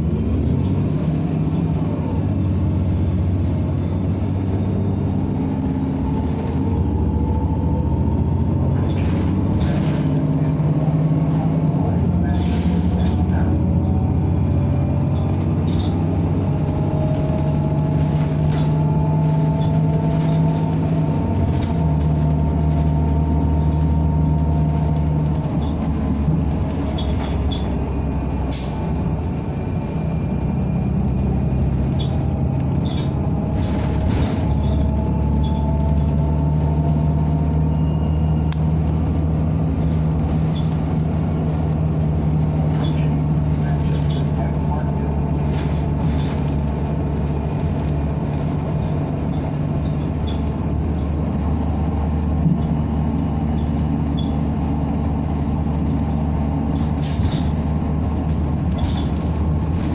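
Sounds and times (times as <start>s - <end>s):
bus engine drone with whine: 0.0s - 59.9s
rattles and clicks: 3.2s - 36.6s, 38.5s - 59.9s.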